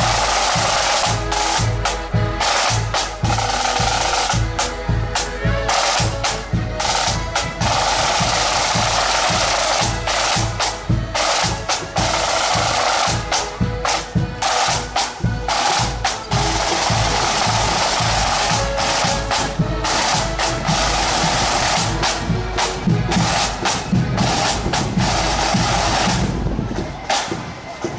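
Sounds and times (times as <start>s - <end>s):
bass drum beat: 0.0s - 26.8s
accordions playing march tune: 0.0s - 27.9s
snare drum rolls: 0.0s - 27.9s.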